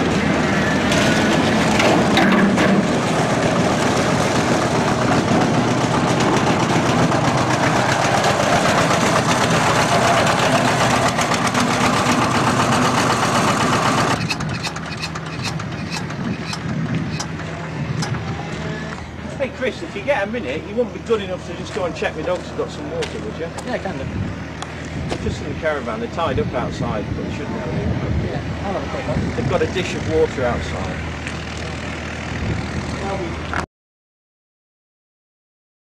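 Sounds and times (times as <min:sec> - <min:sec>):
diesel engine running: 0:00.0 - 0:33.6.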